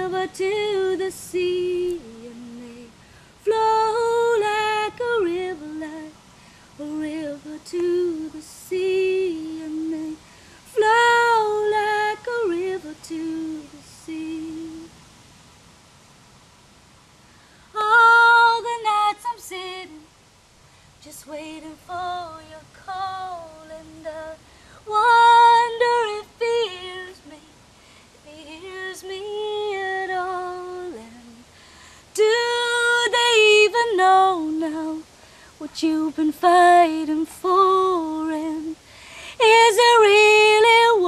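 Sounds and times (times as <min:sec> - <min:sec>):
woman singing a cappella: 0:00.0 - 0:15.2, 0:17.6 - 0:20.2, 0:21.0 - 0:41.0.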